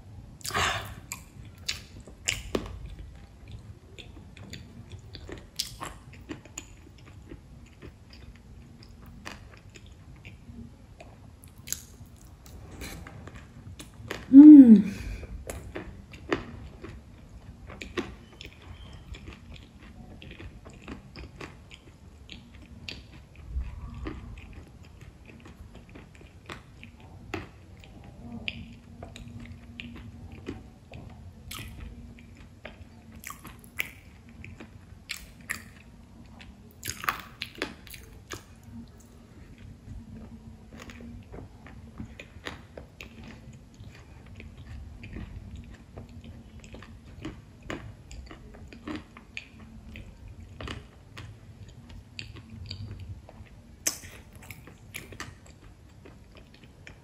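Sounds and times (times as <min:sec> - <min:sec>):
person chewing crisp food: 0:00.4 - 0:57.0.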